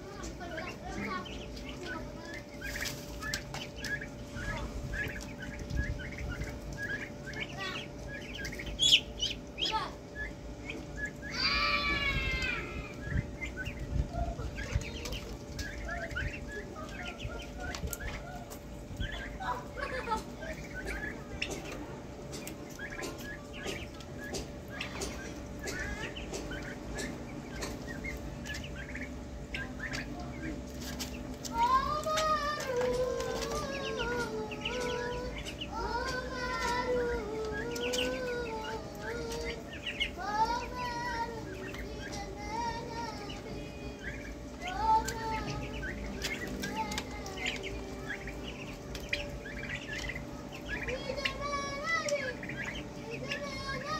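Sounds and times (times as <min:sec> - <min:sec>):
beaks pecking food pans: 0:00.0 - 0:53.9
ducklings and turkeys peeping: 0:00.0 - 0:53.9.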